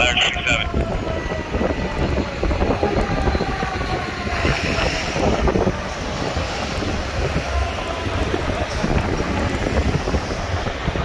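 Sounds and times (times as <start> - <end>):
city street traffic: 0.0 - 11.0
wind buffeting microphone: 0.0 - 11.0.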